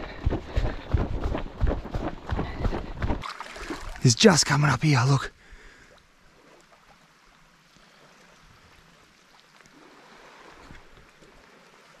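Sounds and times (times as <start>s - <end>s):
small waves lapping: 0.0s - 4.4s, 5.4s - 12.0s.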